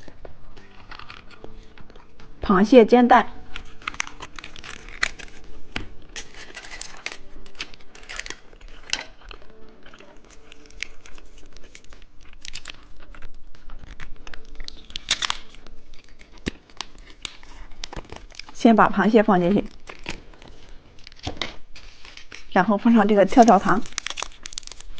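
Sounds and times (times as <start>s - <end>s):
plastic packaging crinkling: 0.0s - 2.2s, 3.4s - 24.9s.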